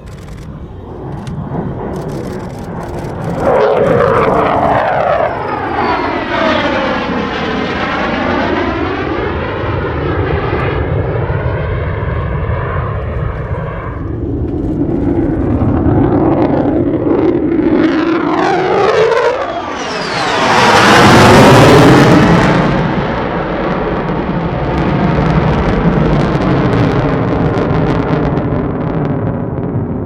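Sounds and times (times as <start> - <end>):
jet engine passing: 0.0 - 30.0.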